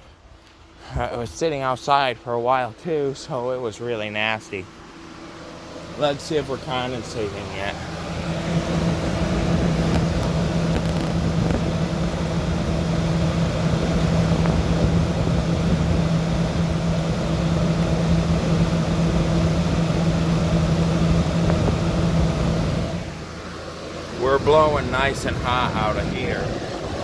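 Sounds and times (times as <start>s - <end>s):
compressor humming: 0.0s - 27.0s
fan blowing air: 0.0s - 27.0s.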